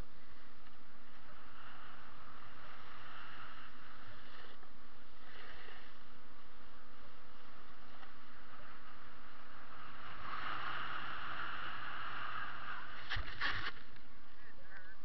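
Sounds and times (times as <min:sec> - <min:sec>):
snowboard scraping snow: 0:01.2 - 0:13.9.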